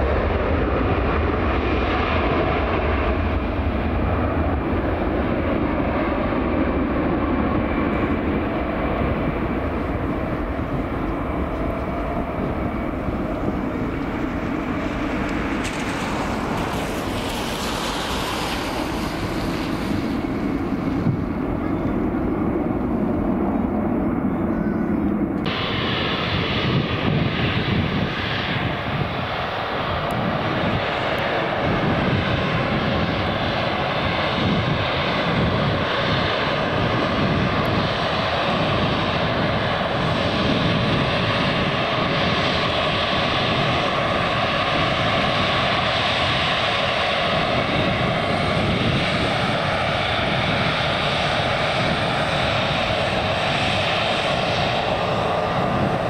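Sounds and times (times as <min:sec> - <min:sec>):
airliner engines at high power: 0:00.0 - 0:56.0.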